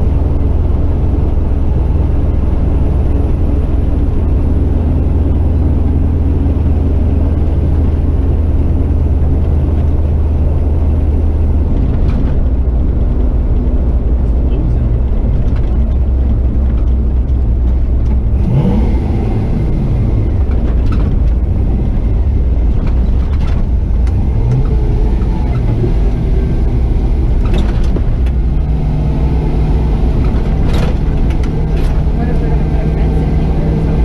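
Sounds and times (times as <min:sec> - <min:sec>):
steady drone: 0:00.0 - 0:34.0
truck engine running under load: 0:00.0 - 0:34.0.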